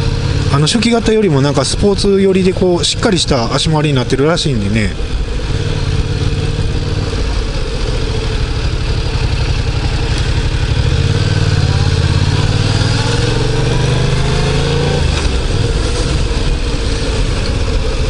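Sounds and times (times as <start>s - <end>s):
motorcycle engine running: 0.0s - 18.0s
wind and road rush: 0.0s - 18.0s.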